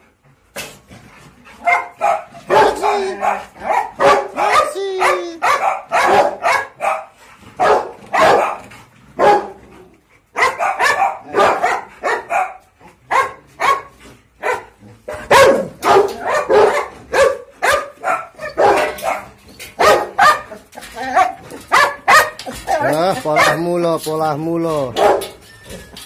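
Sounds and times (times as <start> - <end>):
dogs barking: 1.5 - 25.4.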